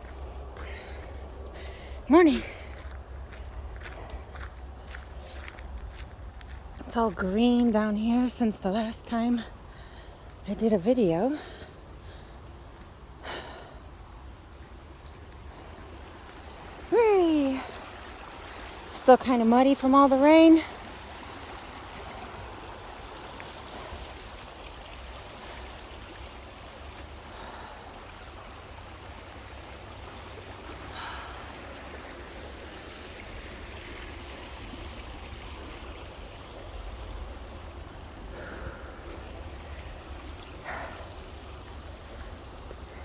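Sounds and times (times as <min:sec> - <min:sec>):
flowing river water: 0:00.0 - 0:43.0.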